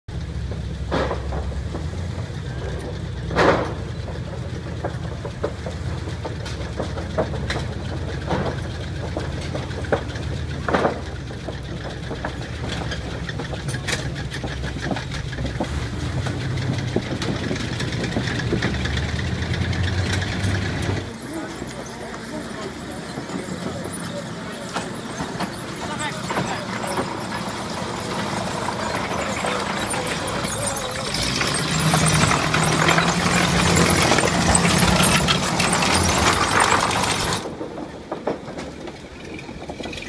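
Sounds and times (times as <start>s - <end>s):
tank engine rumbling at low revs: 0.1s - 40.0s.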